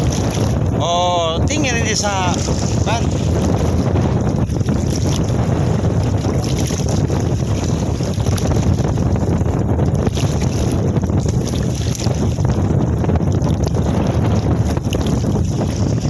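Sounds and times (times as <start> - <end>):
choppy water against hull: 0.0 - 16.0
wind buffeting microphone: 0.0 - 16.0.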